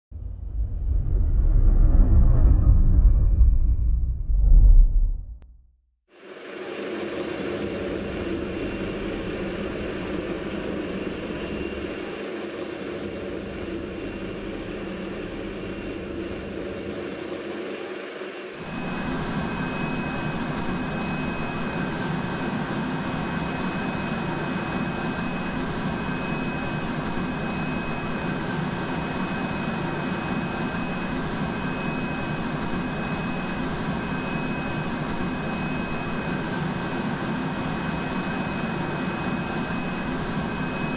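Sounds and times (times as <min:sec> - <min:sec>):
aircraft jet whine and rumble: 0:00.2 - 0:05.5, 0:06.1 - 0:40.9
low hum with high whistling: 0:06.2 - 0:40.9.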